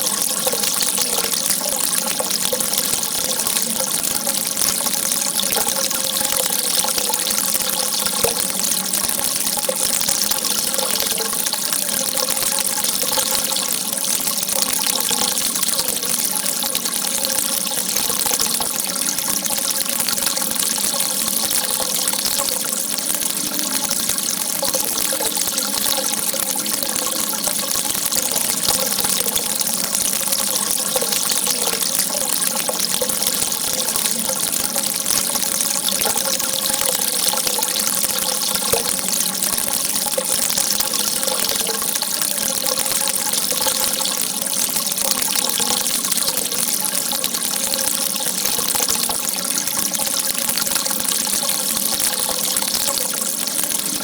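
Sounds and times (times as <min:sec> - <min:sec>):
water gushing: 0:00.0 - 0:54.0.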